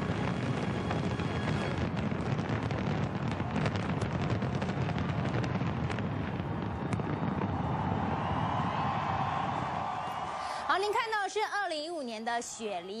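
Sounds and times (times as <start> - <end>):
fireworks crackles and pops: 0.0 - 11.2
fireworks bursts rumbling: 0.0 - 13.0.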